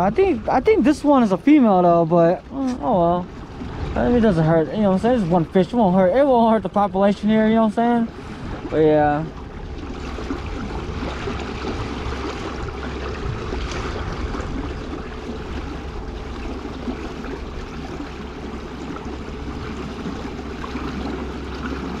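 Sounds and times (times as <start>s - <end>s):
low motor hum: 0.0s - 22.0s
water rushing along hull: 0.0s - 22.0s.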